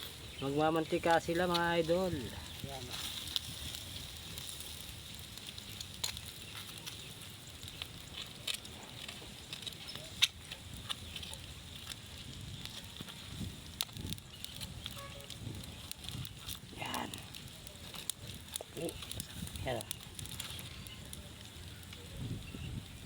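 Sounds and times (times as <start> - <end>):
fire crackles and pops: 0.0 - 23.0
fish sizzling over fire: 0.0 - 23.0.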